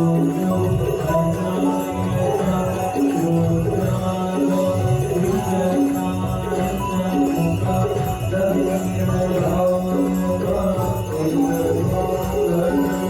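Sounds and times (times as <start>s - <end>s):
devotional singing over music: 0.0s - 13.0s
jingling bells: 0.0s - 13.0s.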